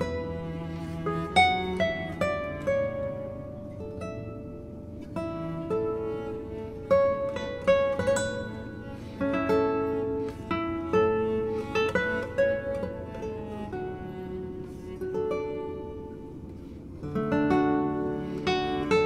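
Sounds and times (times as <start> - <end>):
plucked guitar-like tune: 0.0 - 19.0.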